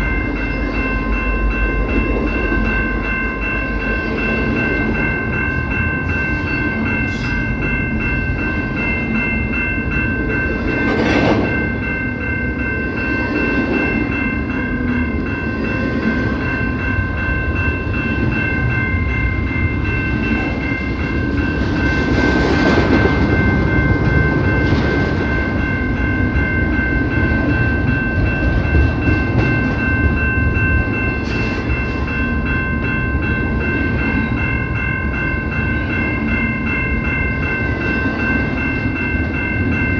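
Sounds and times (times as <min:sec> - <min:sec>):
train cars rumbling and clacking: 0:00.0 - 0:39.9.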